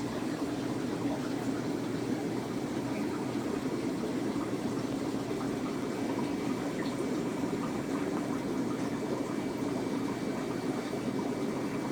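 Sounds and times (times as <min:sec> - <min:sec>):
aquarium water circulating: 0:00.0 - 0:11.9.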